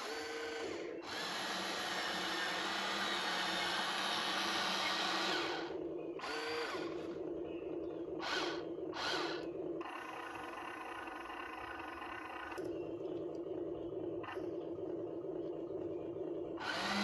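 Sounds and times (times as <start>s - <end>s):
small electric motors whining: 0.0s - 15.1s, 15.8s - 17.0s.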